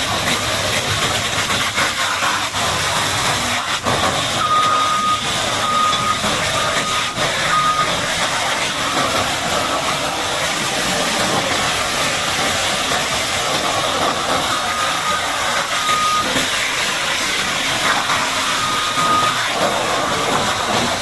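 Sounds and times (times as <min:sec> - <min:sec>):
high-pressure water spray hissing: 0:00.0 - 0:21.0
vehicle reversing alarm beeping: 0:02.7 - 0:21.0.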